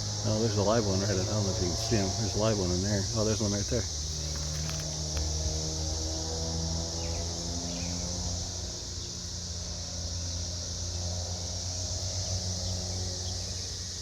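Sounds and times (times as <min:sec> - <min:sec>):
cicada chorus drone: 0:00.0 - 0:14.0
low mechanical hum: 0:00.0 - 0:14.0.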